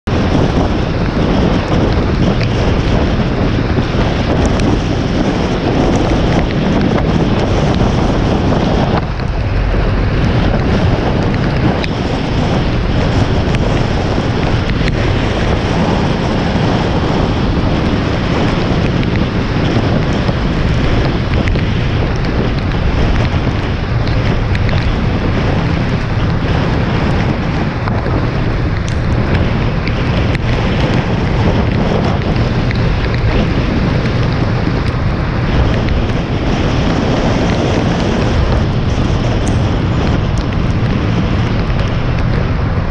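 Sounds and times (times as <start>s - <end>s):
wind buffeting camera: 0.0s - 42.9s.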